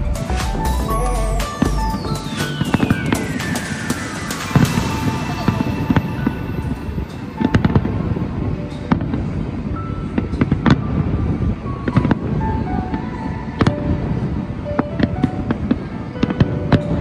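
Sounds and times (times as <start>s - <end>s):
firework bangs and crackles: 0.0s - 17.0s.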